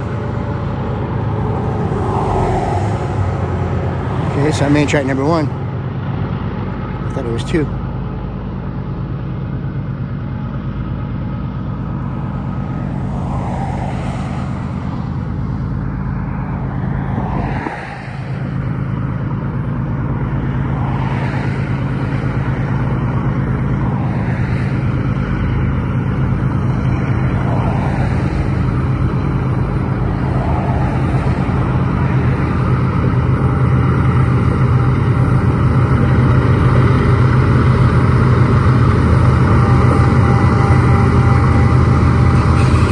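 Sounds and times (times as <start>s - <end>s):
diesel locomotive engines droning: 0.0s - 42.9s.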